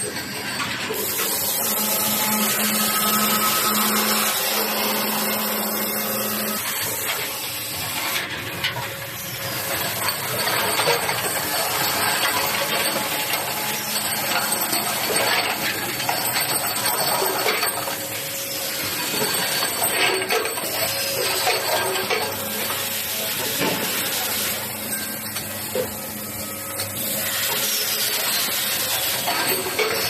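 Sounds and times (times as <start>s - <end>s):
machine noise with hiss: 0.0s - 30.0s.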